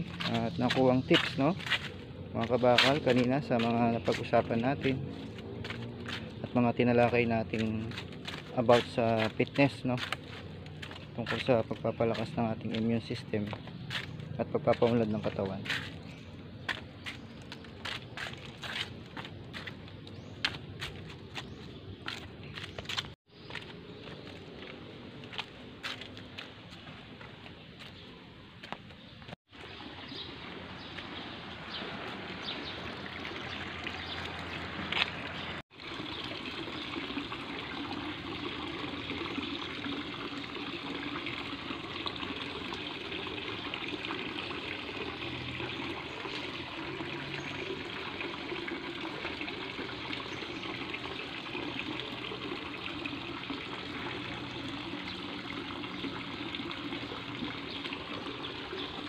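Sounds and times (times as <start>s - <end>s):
stream running over stones: 0.0s - 28.0s, 29.5s - 59.0s.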